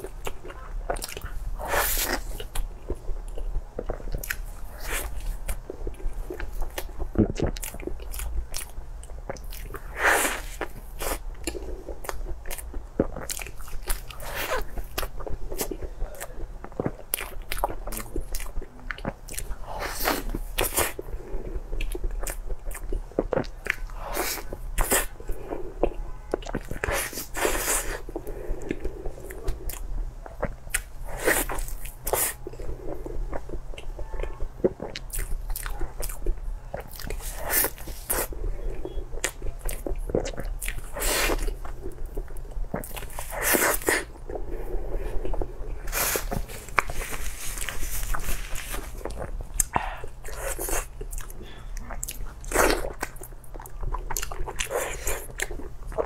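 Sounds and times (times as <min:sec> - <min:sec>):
chewing meat on the bone: 0:00.0 - 0:44.5, 0:45.2 - 0:56.0.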